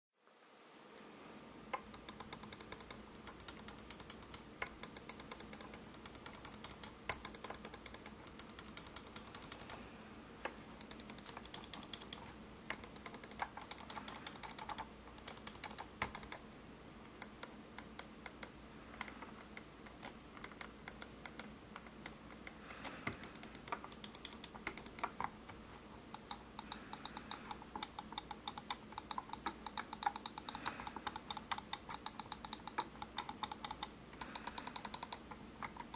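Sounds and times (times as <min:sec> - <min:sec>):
mouse buttons clicking: 0:01.8 - 0:09.8, 0:10.4 - 0:16.4, 0:17.1 - 0:35.9.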